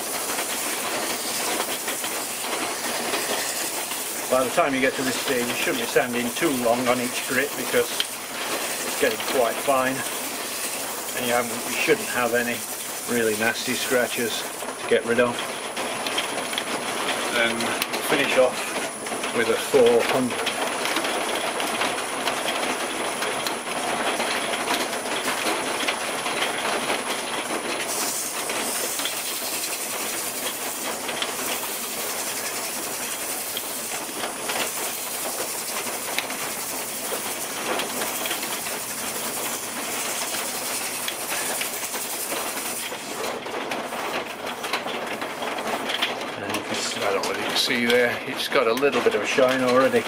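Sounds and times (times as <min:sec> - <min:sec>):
lathe winding down: 0:00.0 - 0:22.6, 0:23.2 - 0:50.0
wood lathe running: 0:00.0 - 0:50.0.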